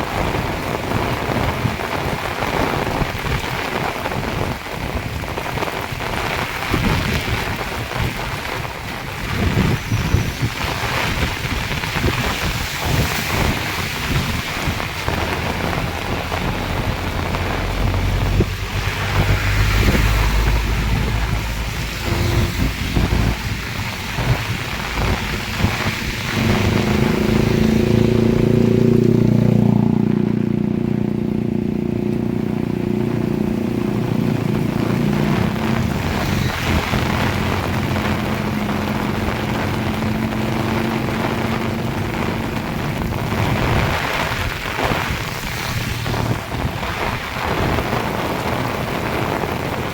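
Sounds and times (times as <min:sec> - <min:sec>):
heavy rain pouring: 0:00.0 - 0:49.9
passing vehicle engine hum: 0:09.8 - 0:49.8.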